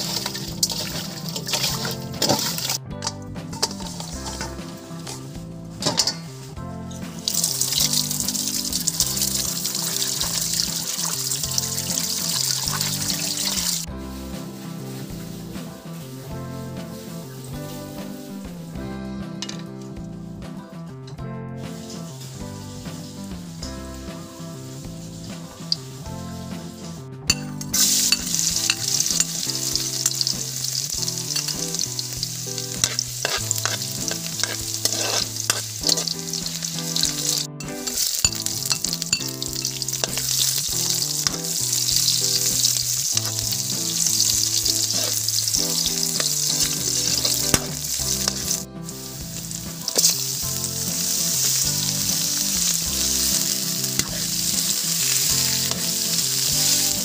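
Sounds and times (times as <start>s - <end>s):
food sizzling in hot oil: 0.0s - 2.8s, 3.5s - 18.8s, 21.6s - 57.0s.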